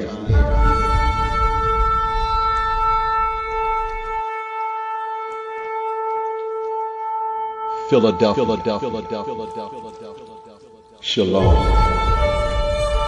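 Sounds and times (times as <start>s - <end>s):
shofar long note: 0.3s - 13.0s.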